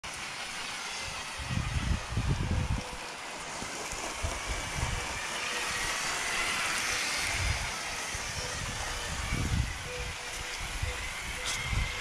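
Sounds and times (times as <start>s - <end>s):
toy train running on track: 0.0s - 12.0s.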